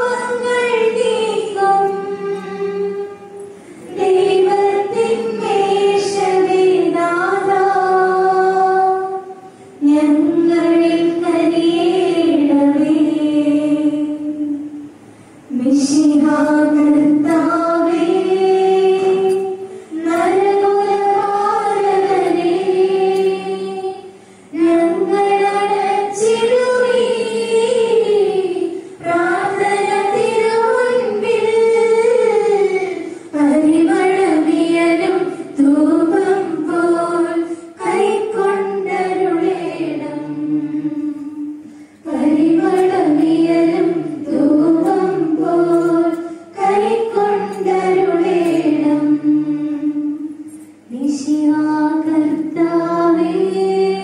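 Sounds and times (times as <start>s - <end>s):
women singing a hymn unaccompanied: 0.0s - 14.9s, 15.5s - 54.0s.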